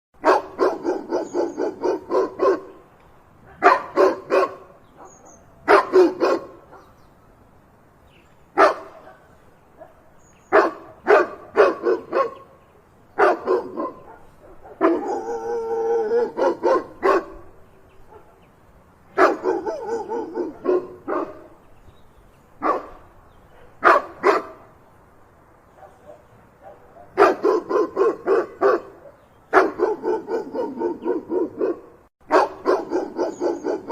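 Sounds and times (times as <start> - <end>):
dog barking: 0.2 - 2.8, 3.5 - 6.9, 8.6 - 12.5, 13.2 - 18.4, 19.2 - 21.5, 22.6 - 23.0, 23.6 - 24.7, 25.7 - 33.9.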